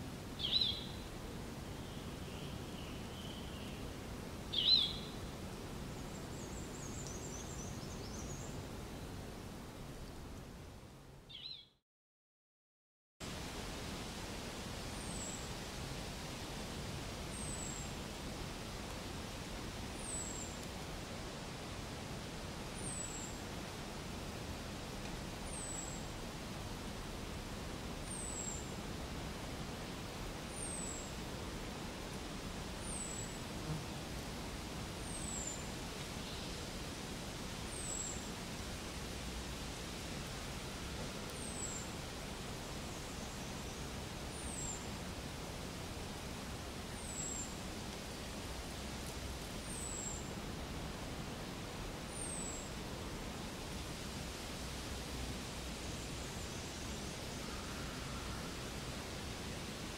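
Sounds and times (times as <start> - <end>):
background hiss: 0.0 - 11.6, 13.2 - 59.9.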